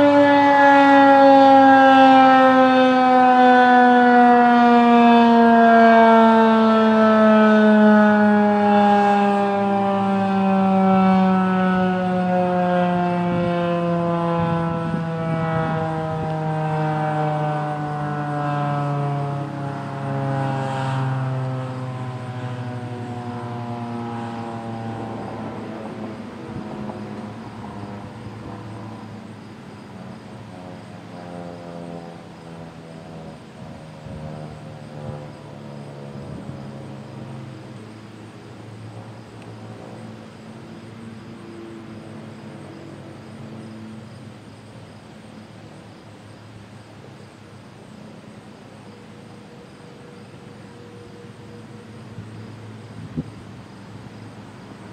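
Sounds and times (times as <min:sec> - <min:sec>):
tornado siren winding down: 0:00.0 - 0:54.9.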